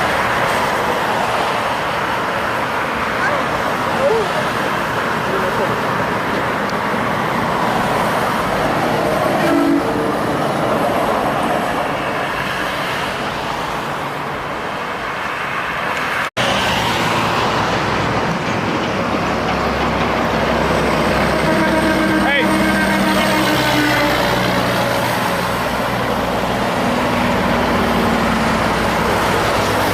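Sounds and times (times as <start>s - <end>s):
road traffic passing: 0.0s - 29.9s.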